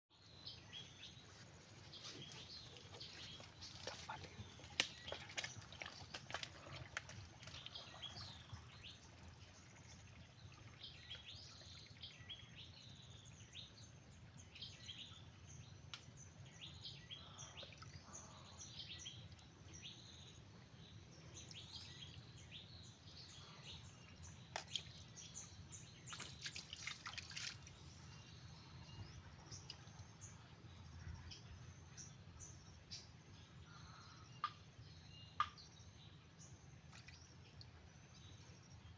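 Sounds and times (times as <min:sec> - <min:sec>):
small birds chirping: 0:00.1 - 0:38.9.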